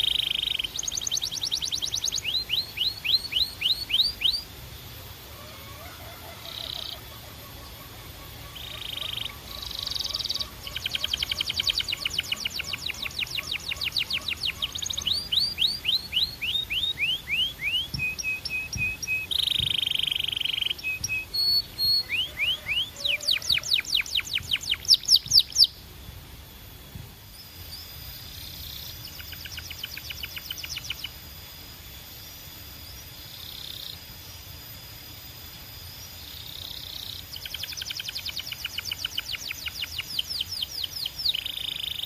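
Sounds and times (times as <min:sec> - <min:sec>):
canary singing trilled phrases: 0:00.0 - 0:04.6, 0:05.7 - 0:25.8, 0:27.8 - 0:31.3, 0:36.1 - 0:42.0.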